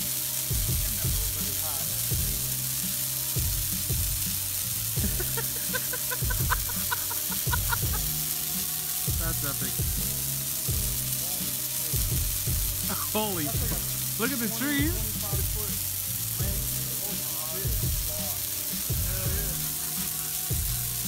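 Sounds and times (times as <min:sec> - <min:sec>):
bonfire crackling and hissing: 0:00.0 - 0:21.0
music with a steady beat: 0:00.0 - 0:21.0.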